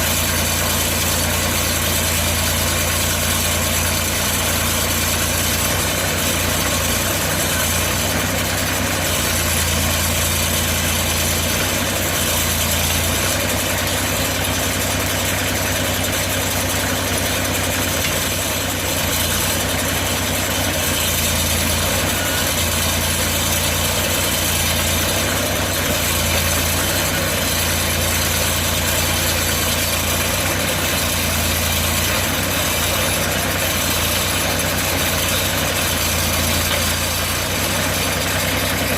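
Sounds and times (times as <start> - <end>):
sawmill engine humming: 0.0 - 38.9.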